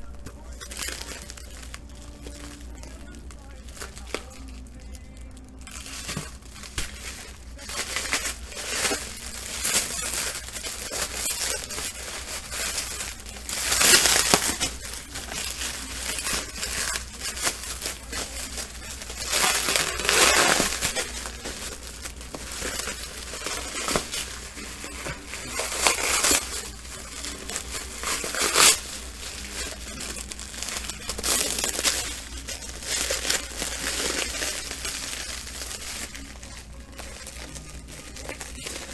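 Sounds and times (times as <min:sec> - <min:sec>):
loud rustles: 0:00.0 - 0:38.9
packaging crinkling and tearing: 0:00.0 - 0:38.9.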